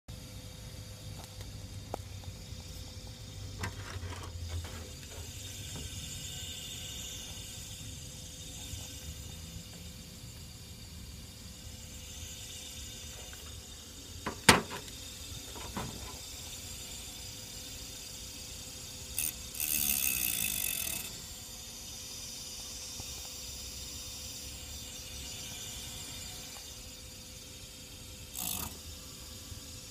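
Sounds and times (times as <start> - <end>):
electric fan whine and hum: 0.1 - 29.9.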